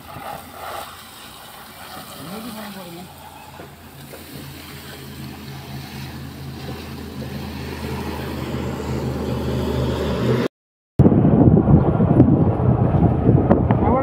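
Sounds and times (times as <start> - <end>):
vehicle engine humming: 0.2 - 14.0.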